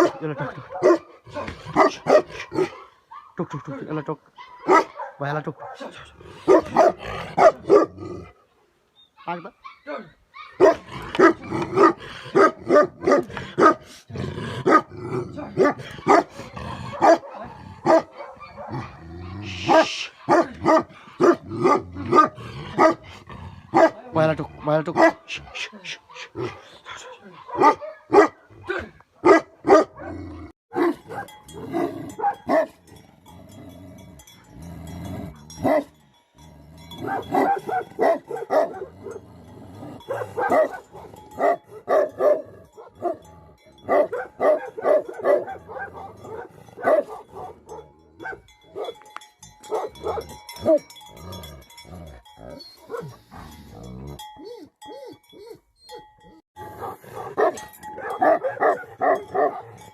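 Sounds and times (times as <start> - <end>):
dogs growling: 0.0 - 3.0, 5.6 - 8.5, 10.6 - 29.0, 29.7 - 49.0, 49.6 - 55.4, 56.6 - 59.9
dogs barking: 0.0 - 3.8, 4.4 - 8.3, 9.2 - 33.1, 35.5 - 36.0, 36.9 - 39.3, 40.0 - 53.6, 54.6 - 59.9.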